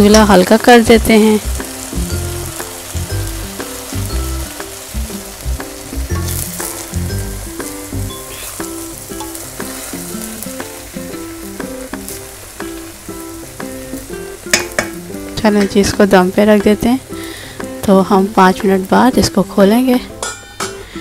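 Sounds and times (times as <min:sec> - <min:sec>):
rice sizzling: 0:00.0 - 0:21.0.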